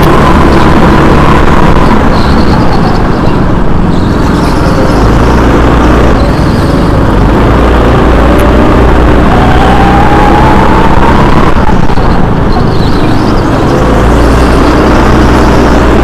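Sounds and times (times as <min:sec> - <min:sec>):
go-kart motor whining: 0:00.0 - 0:16.0
heavy low rumble: 0:00.0 - 0:16.0.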